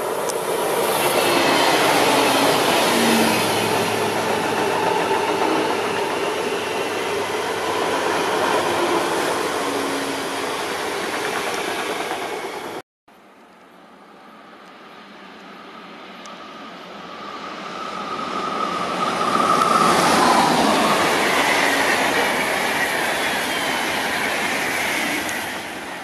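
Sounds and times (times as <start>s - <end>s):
train wheels rumbling on rail: 0.0s - 12.8s, 16.4s - 26.0s.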